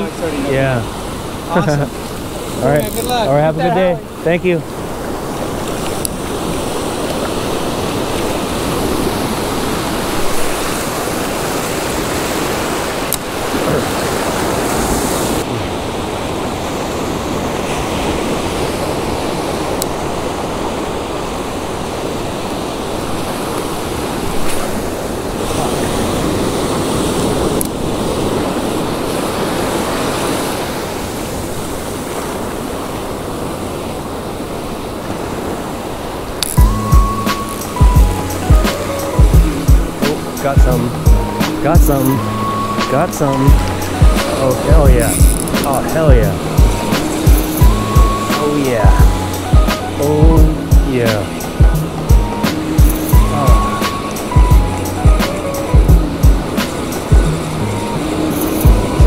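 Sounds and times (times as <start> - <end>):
waves breaking on sand: 0.0 - 59.0.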